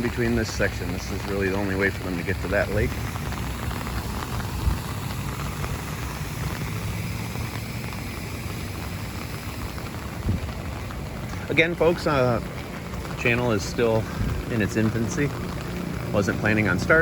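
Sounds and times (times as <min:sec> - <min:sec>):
rain and wind hissing: 0:00.0 - 0:17.0
wind rumbling on microphone: 0:00.0 - 0:17.0.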